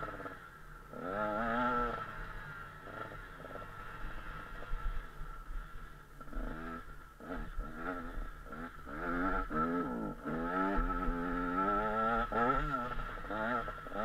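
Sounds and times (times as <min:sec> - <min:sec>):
two-stroke engine revving: 0:00.0 - 0:05.4, 0:06.2 - 0:14.0.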